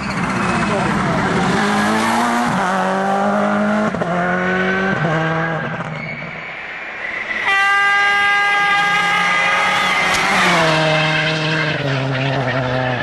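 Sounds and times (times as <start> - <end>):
rally car engine revving: 0.0 - 6.4, 7.1 - 13.0.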